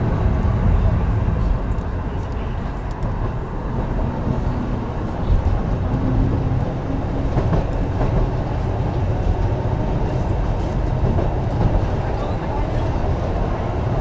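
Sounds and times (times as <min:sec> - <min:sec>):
tram rumbling on rails: 0:00.0 - 0:14.0.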